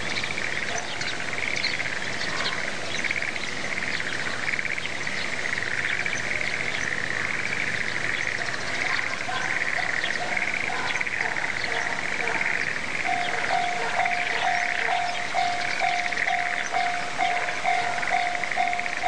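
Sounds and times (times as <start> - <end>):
frogs calling: 0.0 - 19.0
small birds chirping: 0.0 - 19.0.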